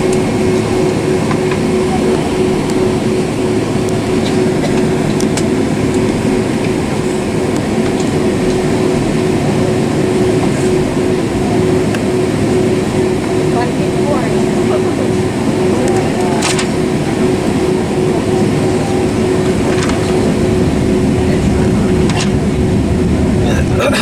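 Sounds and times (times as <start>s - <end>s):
jet engines: 0.0s - 24.0s.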